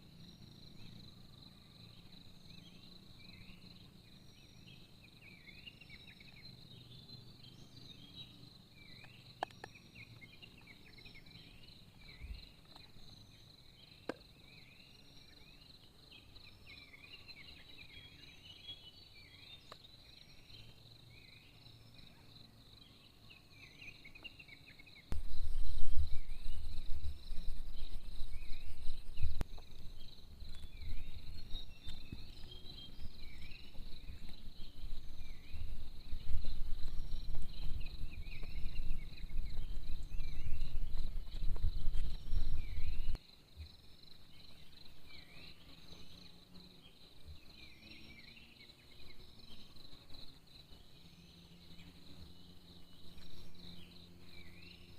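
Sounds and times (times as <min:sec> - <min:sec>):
insect chorus buzzing and chirping: 0:00.0 - 0:54.9.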